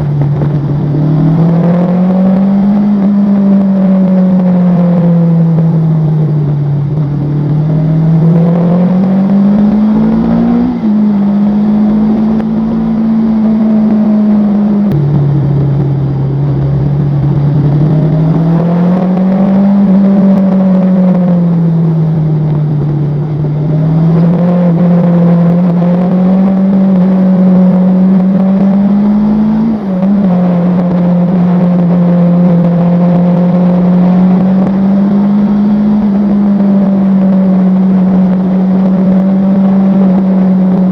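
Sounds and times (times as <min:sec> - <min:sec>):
vehicle engine revving: 0:00.0 - 0:40.9.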